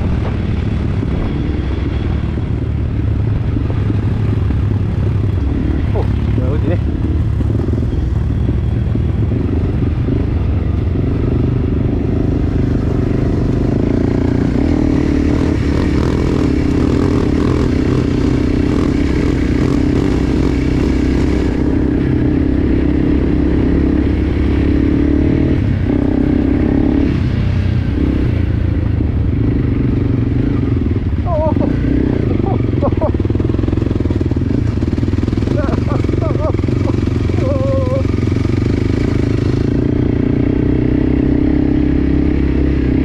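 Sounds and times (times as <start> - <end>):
dirt bike engine: 0.0 - 27.2, 27.8 - 43.0.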